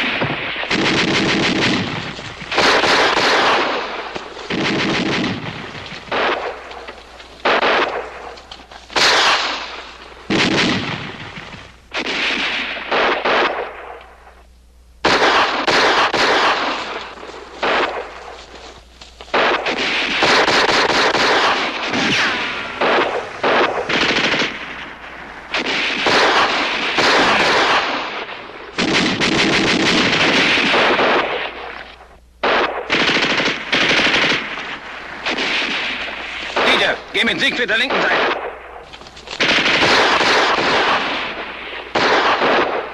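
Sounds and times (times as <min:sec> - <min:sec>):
machine-gun bursts: 0:00.0 - 0:13.8, 0:15.0 - 0:18.4, 0:19.3 - 0:31.7, 0:32.4 - 0:38.5, 0:39.3 - 0:42.9
rifle shots: 0:00.0 - 0:42.9.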